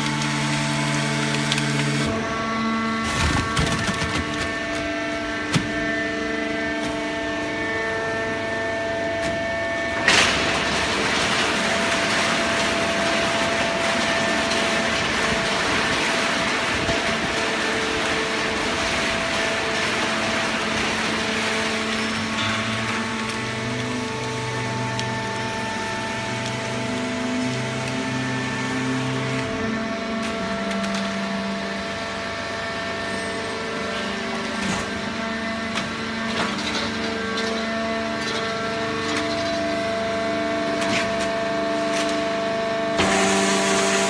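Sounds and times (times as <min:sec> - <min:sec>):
baler machine humming: 0:00.0 - 0:44.0.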